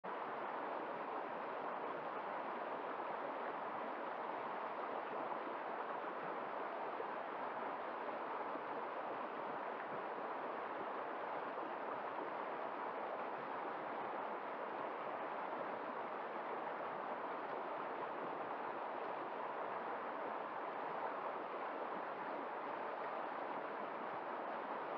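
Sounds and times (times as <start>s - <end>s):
stream rushing over rocks: 0.1s - 24.9s.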